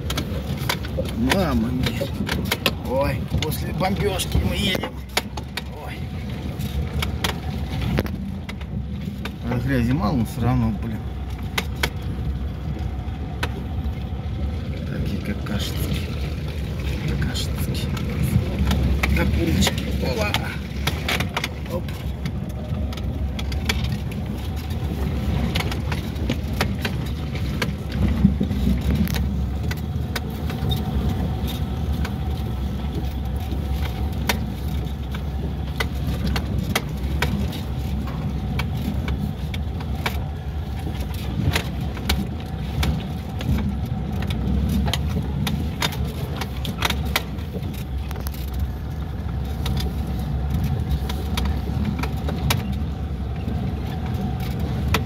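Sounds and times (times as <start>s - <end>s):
car body rattling: 0.0s - 55.0s
car engine and road rumble: 0.0s - 55.0s.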